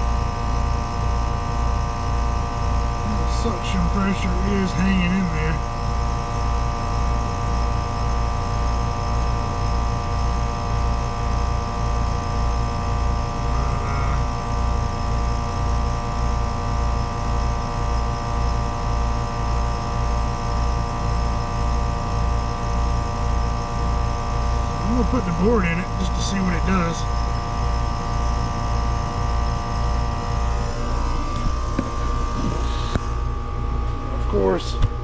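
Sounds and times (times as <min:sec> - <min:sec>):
heat pump humming with pulsing beat: 0:00.0 - 0:35.0.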